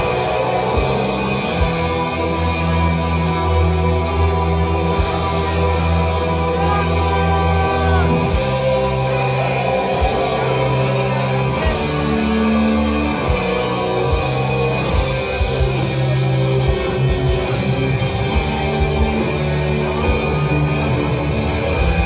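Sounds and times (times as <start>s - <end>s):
heavy metal music: 0.0s - 22.0s.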